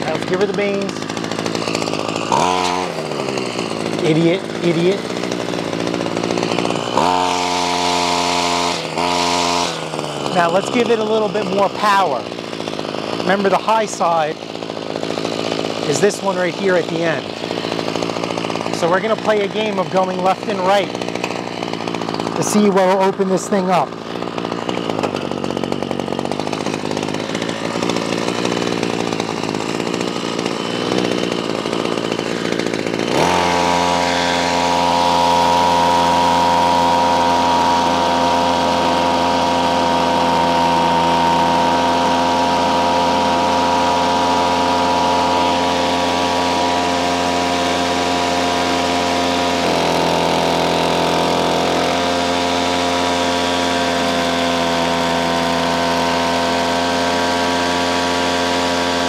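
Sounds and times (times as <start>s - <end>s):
string trimmer engine revving: 0.0s - 59.0s.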